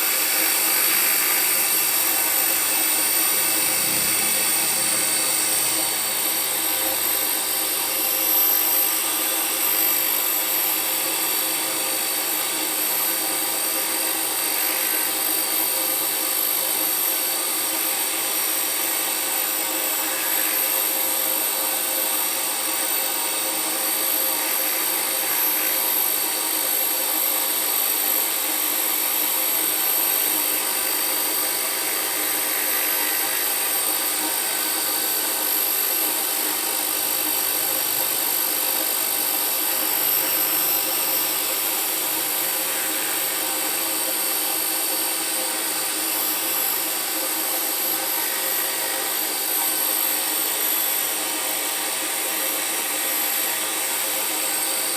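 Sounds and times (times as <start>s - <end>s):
small motor cleaning tool whining: 0.0s - 54.9s.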